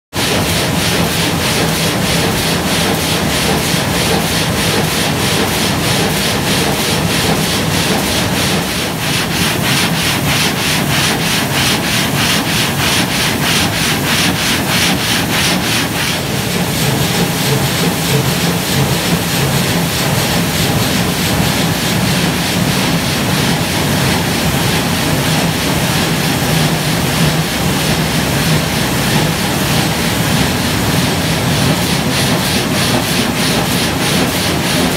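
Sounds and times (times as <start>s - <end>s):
stone saw cutting rhythmically: 0.2s - 34.9s.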